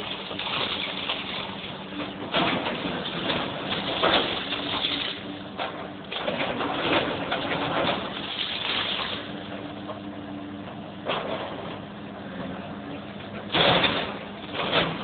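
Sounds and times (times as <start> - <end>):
diesel engine and hydraulics hum: 0.0 - 15.0.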